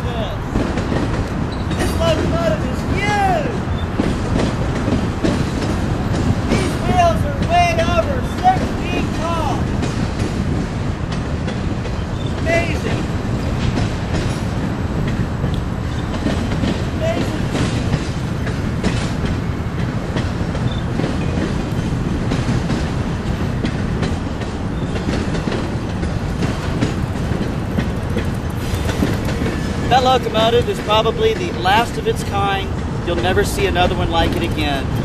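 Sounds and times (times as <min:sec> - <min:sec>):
train rumbling on rails: 0:00.0 - 0:35.0
wheels clacking over rail joints: 0:00.0 - 0:35.0.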